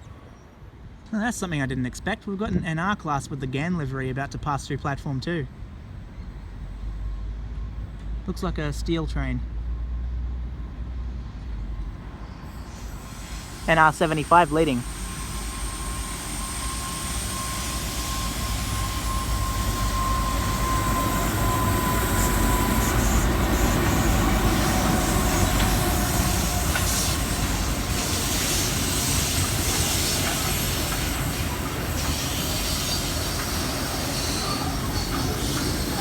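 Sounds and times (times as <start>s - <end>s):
freight train rumbling on rails: 0.0s - 36.0s.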